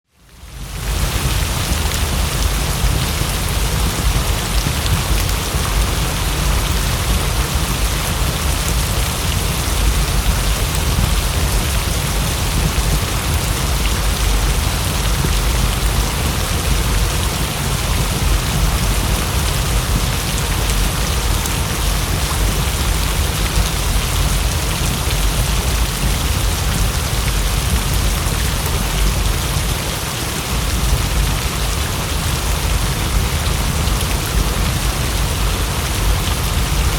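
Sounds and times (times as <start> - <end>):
heavy rain falling: 0.1 - 36.9.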